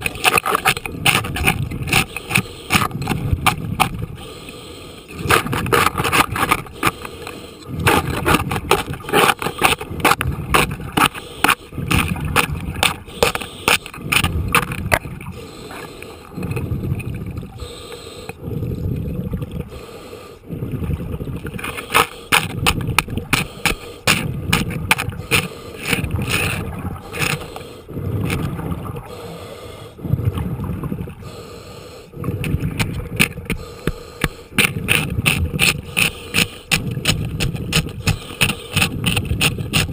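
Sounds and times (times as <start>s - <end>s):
underwater rumbling with crackling clicks: 0.0s - 19.9s, 20.5s - 29.2s, 30.0s - 31.4s, 32.1s - 39.9s.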